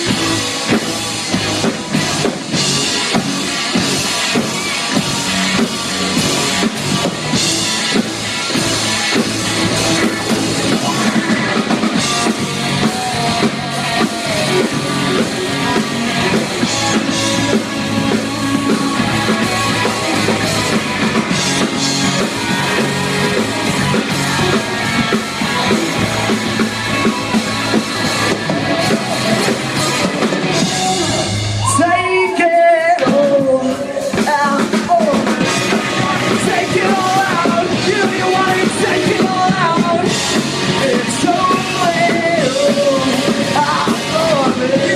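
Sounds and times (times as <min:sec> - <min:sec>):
live rock band playing: 0:00.0 - 0:44.9
person singing: 0:08.4 - 0:44.9.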